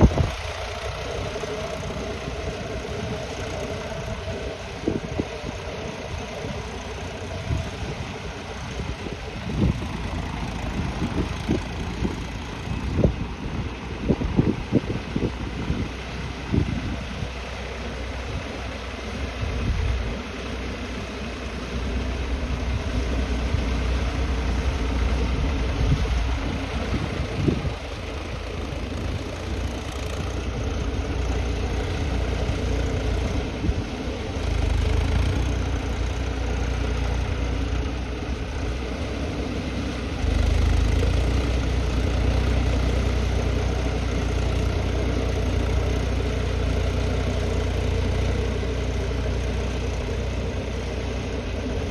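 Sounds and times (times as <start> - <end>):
tractor engine rumbling: 0.0 - 51.9.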